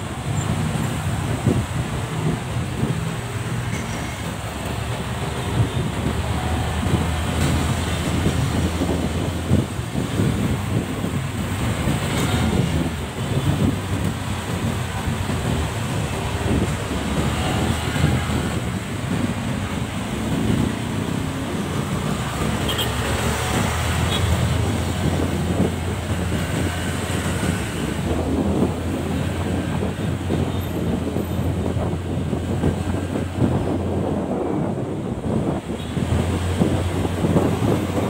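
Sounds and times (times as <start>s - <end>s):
road and traffic rumble: 0.0s - 38.0s
wind on microphone: 0.0s - 38.0s.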